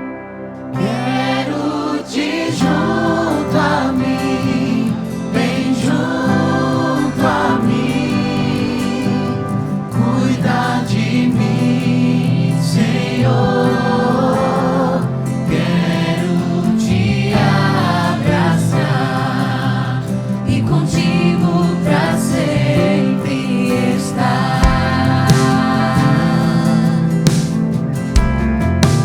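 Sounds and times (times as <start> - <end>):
band with keyboard bass guitars: 0.0 - 29.0
choir and vocalists singing: 0.7 - 27.7.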